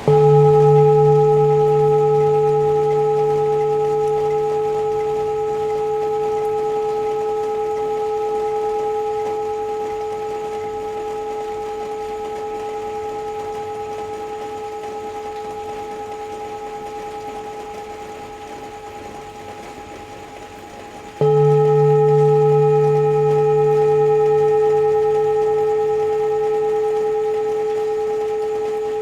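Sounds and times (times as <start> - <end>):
singing bowl ringing: 0.0 - 20.6, 21.2 - 29.0
faint rain hiss: 0.0 - 29.0.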